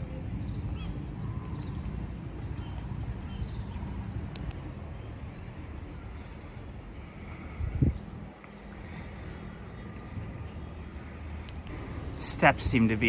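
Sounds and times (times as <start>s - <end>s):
wind rumbling on microphone: 0.0s - 10.5s.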